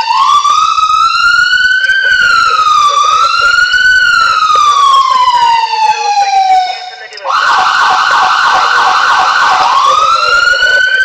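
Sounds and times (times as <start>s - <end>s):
electronic police siren wailing: 0.0s - 11.0s.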